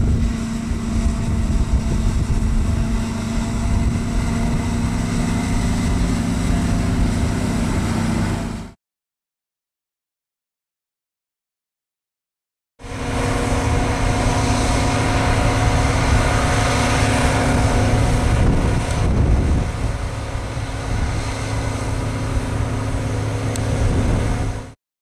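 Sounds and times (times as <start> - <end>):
forage harvester drone: 0.0 - 8.8, 12.8 - 24.8
truck engine running: 0.0 - 8.8, 12.8 - 24.8.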